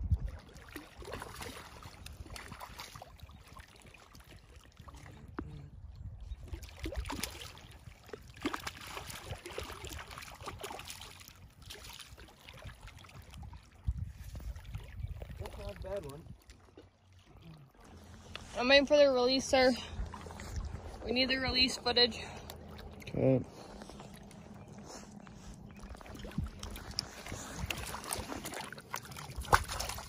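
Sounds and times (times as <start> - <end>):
wind rumble on microphone: 0.0 - 8.3, 9.1 - 16.5, 17.8 - 30.0
lake water lapping: 0.0 - 30.0.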